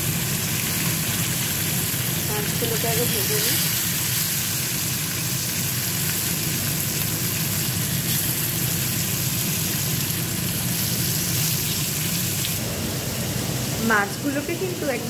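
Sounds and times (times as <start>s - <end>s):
fish sizzling in hot oil: 0.0s - 12.6s.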